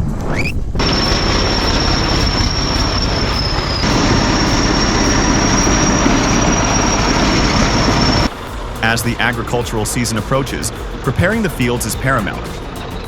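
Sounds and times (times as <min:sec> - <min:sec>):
high-pitched squeal: 0:00.3 - 0:13.0
crawler bulldozer working: 0:00.8 - 0:13.0.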